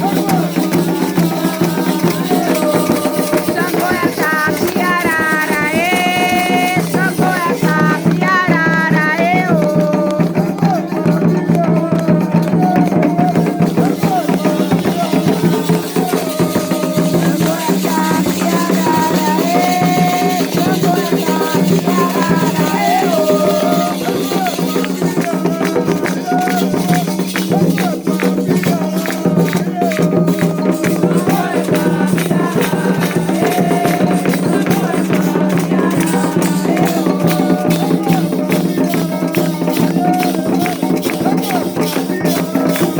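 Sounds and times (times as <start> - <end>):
shaken rattles: 0.0 - 42.9
voices singing a chant: 0.0 - 42.9.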